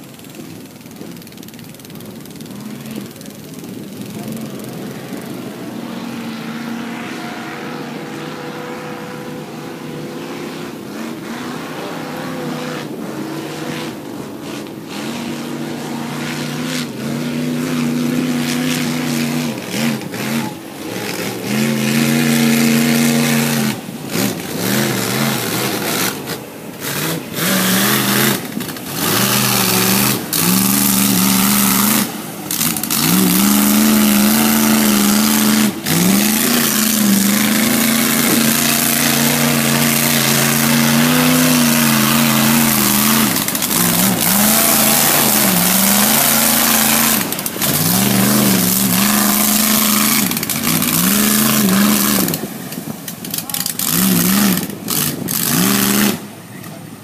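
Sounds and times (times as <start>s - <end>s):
short noise bursts: 0.0s - 56.7s
off-road vehicle engine revving: 0.0s - 57.0s.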